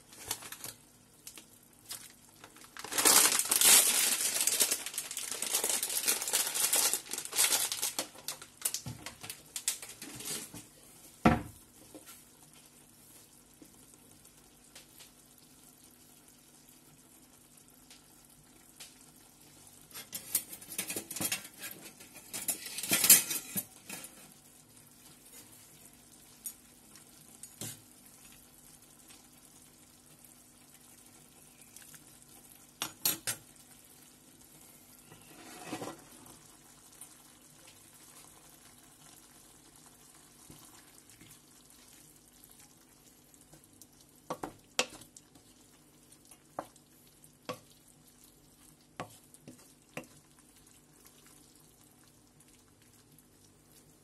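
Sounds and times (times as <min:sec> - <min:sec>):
pot sizzling and crackling: 0:00.0 - 0:54.0.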